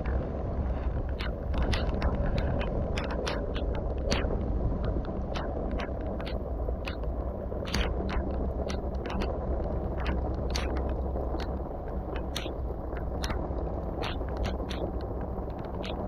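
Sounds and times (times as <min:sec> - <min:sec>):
raindrops ticking on camera: 0:00.0 - 0:16.0
wind rumbling on microphone: 0:00.0 - 0:16.0.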